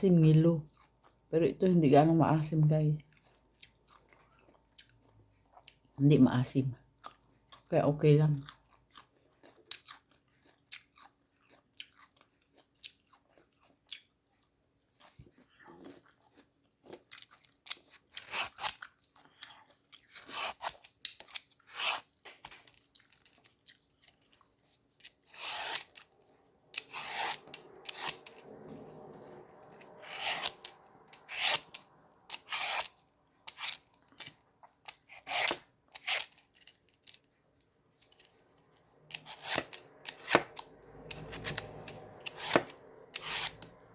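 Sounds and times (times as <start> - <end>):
crunchy chewing of mango: 0.6 - 1.3, 3.0 - 6.0, 6.8 - 7.7, 8.3 - 43.9.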